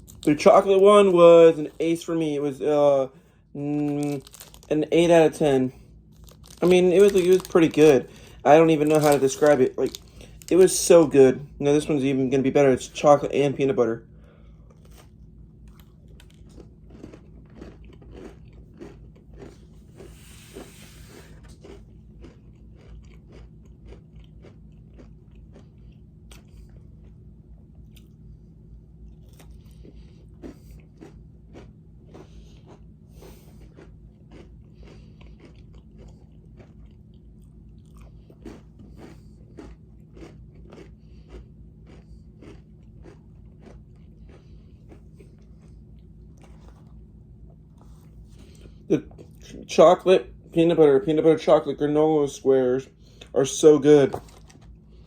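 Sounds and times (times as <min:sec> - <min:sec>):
crunchy granola bar chewing: 0:00.0 - 0:13.7, 0:14.7 - 0:28.2, 0:29.0 - 0:49.7, 0:53.0 - 0:55.0.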